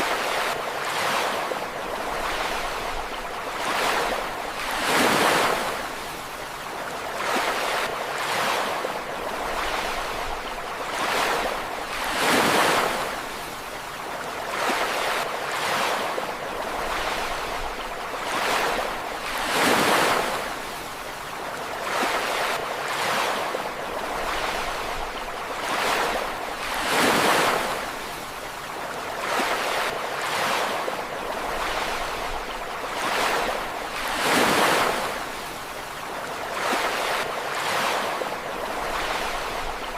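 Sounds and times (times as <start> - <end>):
ocean waves breaking on shore: 0.0 - 39.9
steady wash of water: 0.0 - 39.9.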